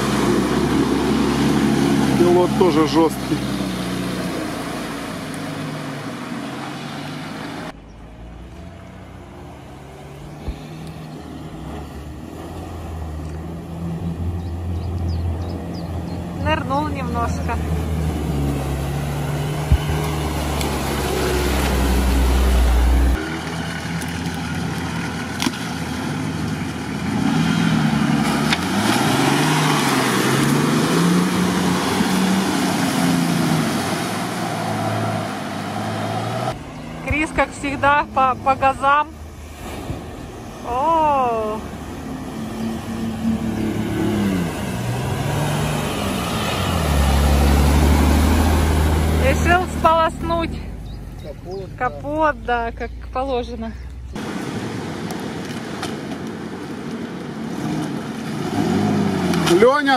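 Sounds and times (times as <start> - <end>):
water splashing: 0.0 - 8.3, 8.9 - 53.6
off-road vehicle engine: 0.0 - 59.9.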